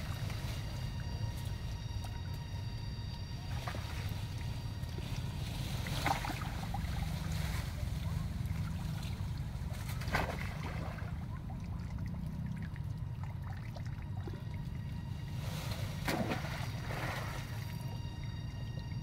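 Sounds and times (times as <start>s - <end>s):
steady low rumble: 0.0s - 19.0s
water splashing: 0.0s - 19.0s.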